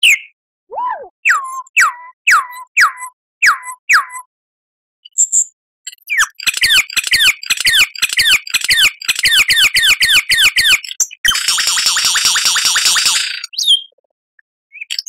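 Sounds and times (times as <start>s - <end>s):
lyrebird song: 0.0s - 4.3s, 5.0s - 14.1s, 14.7s - 15.0s.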